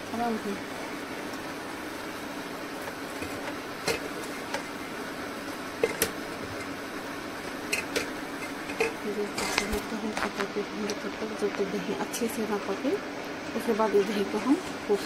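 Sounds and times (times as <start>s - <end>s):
pot hissing on gas stove: 0.0s - 15.0s.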